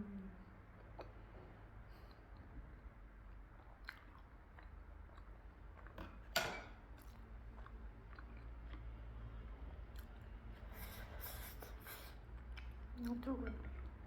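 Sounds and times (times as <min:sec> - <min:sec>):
person chewing food: 0:00.8 - 0:14.0.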